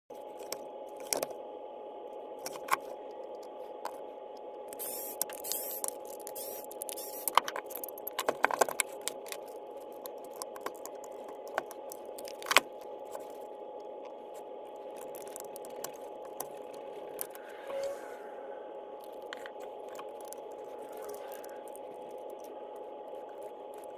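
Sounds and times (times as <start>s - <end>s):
steady hum: 0.1s - 23.9s.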